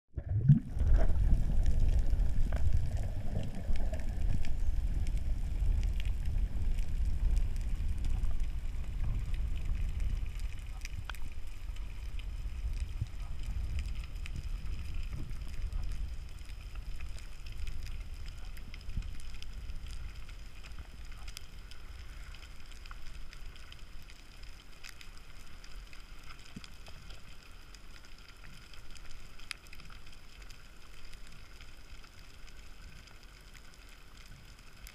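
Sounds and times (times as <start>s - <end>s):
faint clicks and crackles: 0.1s - 34.9s
underwater rumble of moving water: 0.1s - 34.9s.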